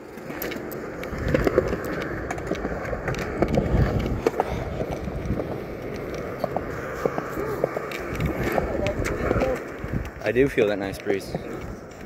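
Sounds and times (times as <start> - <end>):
skateboard clicks and knocks: 0.0 - 12.0
skateboard wheels rolling on concrete: 0.0 - 12.0.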